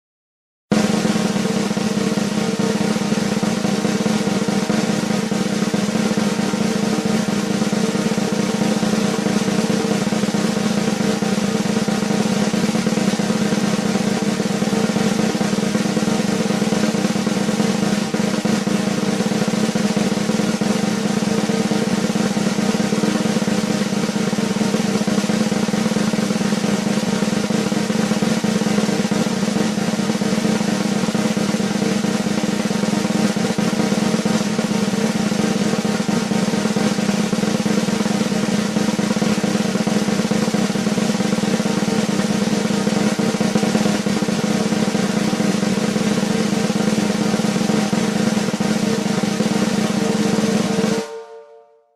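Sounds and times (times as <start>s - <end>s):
snare drum roll: 0.7s - 51.6s.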